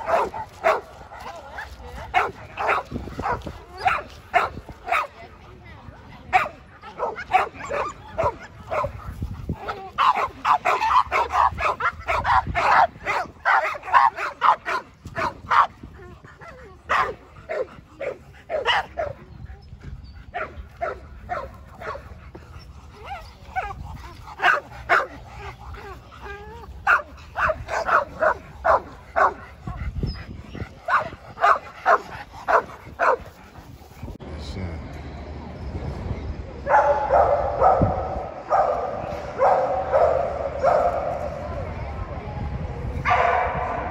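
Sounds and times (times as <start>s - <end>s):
dogs barking: 0.0s - 5.2s, 6.3s - 15.8s, 16.4s - 19.3s, 20.2s - 33.4s, 36.7s - 41.4s.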